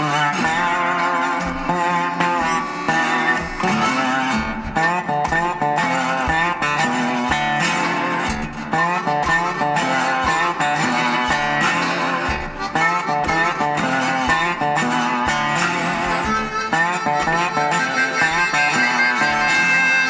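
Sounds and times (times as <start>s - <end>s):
blues guitar over a beat: 0.0s - 20.0s.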